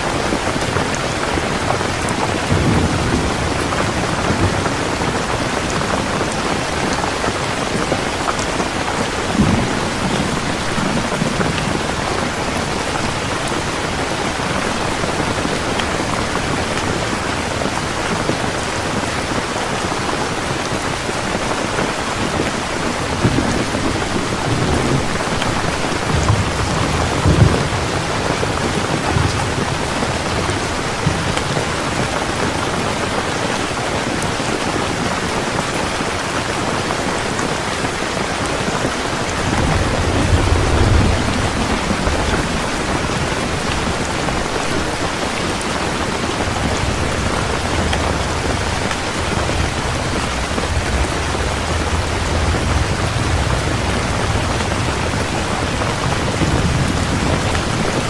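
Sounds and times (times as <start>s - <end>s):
low thunder rumbling: 0.0s - 33.4s, 37.2s - 58.0s
heavy rain falling: 0.0s - 58.0s.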